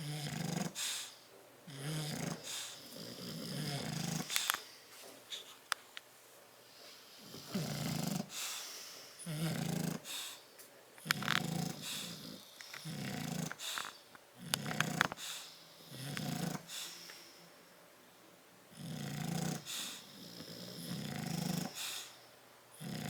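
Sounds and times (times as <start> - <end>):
dogs snoring: 0.0 - 4.8, 6.8 - 17.4, 18.7 - 23.0
dog breathing: 0.2 - 5.6, 6.7 - 17.4, 19.3 - 22.3.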